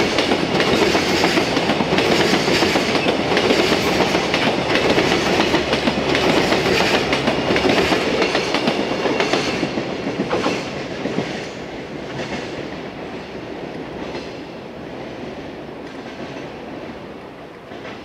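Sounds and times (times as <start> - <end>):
train wheels clicking on rail joints: 0.0 - 18.0.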